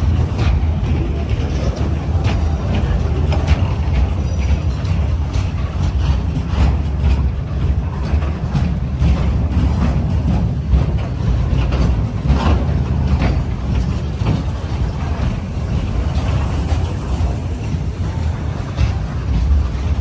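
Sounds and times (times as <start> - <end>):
freight train rumble: 0.0 - 20.0
metallic wheel clacks on rails: 0.0 - 20.0.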